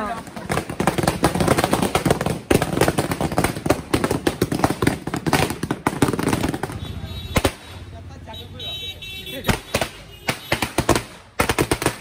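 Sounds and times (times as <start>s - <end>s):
firecrackers banging: 0.0s - 8.2s, 9.4s - 12.0s.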